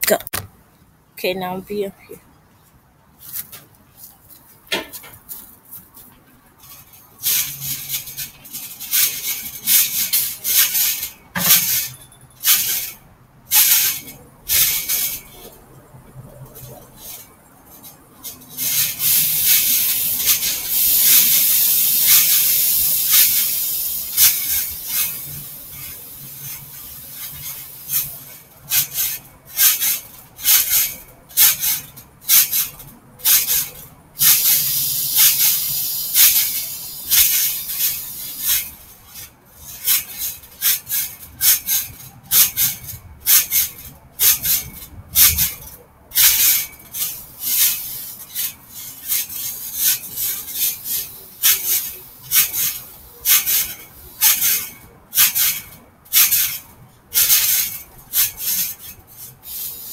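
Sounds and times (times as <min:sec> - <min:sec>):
steady hissing noise: 0:00.1 - 0:59.9
trampoline springs creaking: 0:03.2 - 0:59.9.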